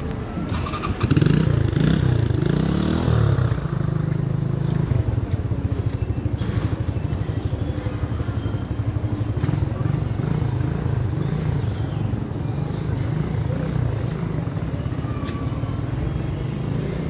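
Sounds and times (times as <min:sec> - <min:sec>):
motorcycle engine revving: 0:00.4 - 0:07.5, 0:08.1 - 0:14.8.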